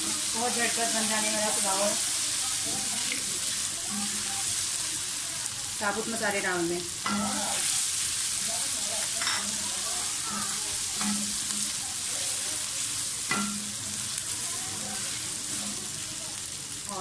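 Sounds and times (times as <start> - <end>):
spices sizzling in hot fat: 0.0 - 17.0.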